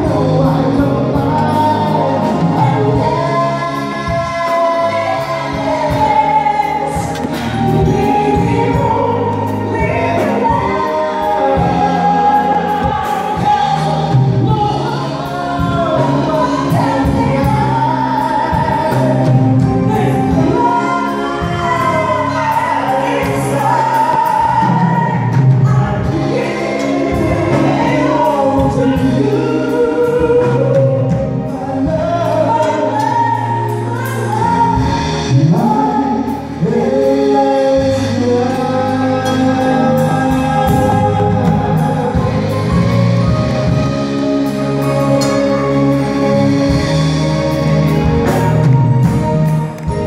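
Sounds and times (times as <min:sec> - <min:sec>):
live band playing: 0:00.0 - 0:50.0
man and woman singing duet: 0:00.0 - 0:50.0.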